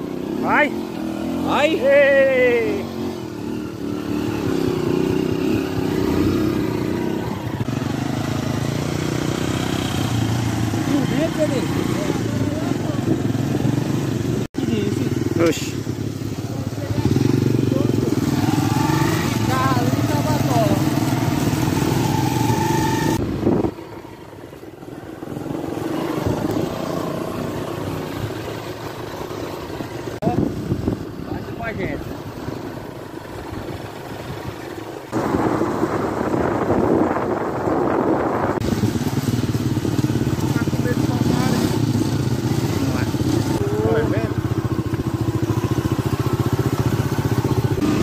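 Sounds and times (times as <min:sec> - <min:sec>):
motorcycle approaching: 0:00.0 - 0:48.0
motorcycle engine at low revs: 0:00.0 - 0:48.0.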